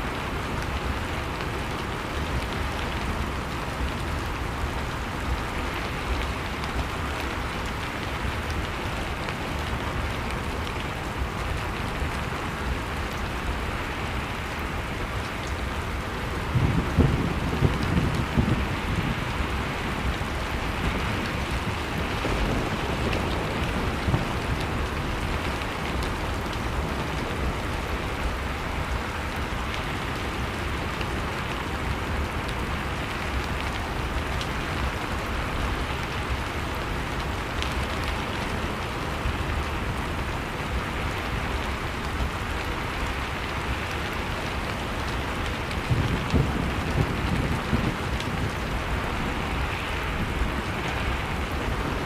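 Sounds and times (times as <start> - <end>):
wood fire crackling: 0.1 - 52.0.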